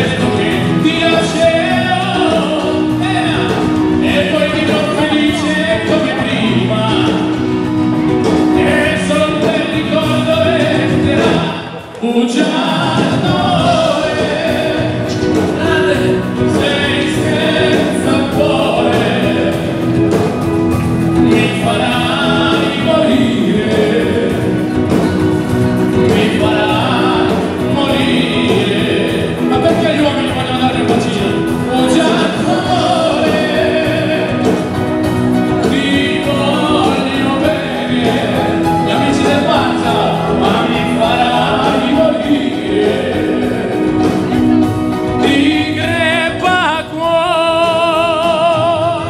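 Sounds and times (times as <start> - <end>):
live dance band playing: 0.0 - 49.0
person singing: 0.0 - 49.0.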